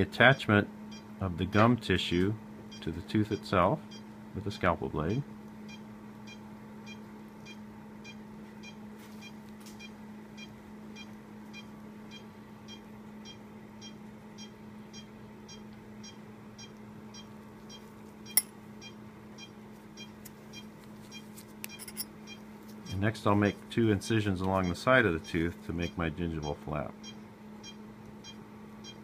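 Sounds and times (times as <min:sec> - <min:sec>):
low equipment hum: 0:00.0 - 0:29.0
patient monitor beeping: 0:02.7 - 0:04.1, 0:05.1 - 0:23.1, 0:24.6 - 0:29.0.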